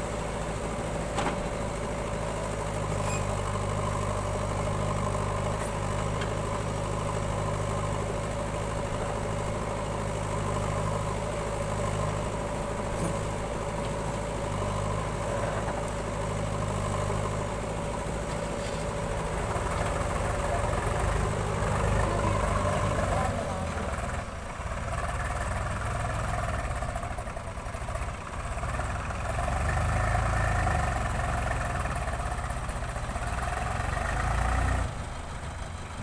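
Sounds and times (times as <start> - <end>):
diesel engines idling: 0.0 - 36.0
tractor pulling away: 0.0 - 36.0.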